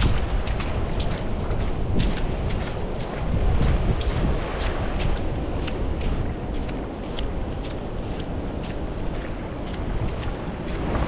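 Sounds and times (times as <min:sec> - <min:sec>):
small waves lapping at shoreline: 0:00.0 - 0:11.0
wind buffeting microphone: 0:00.0 - 0:11.0.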